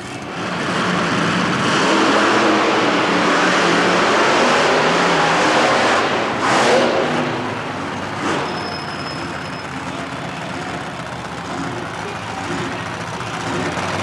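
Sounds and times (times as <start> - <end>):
monster truck engines revving: 0.0 - 14.0.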